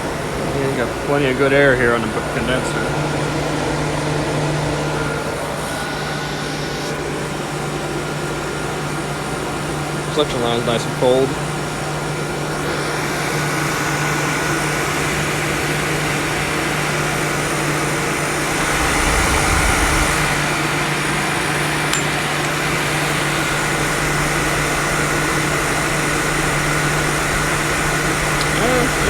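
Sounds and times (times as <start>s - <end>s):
air conditioner running: 0.0s - 29.0s.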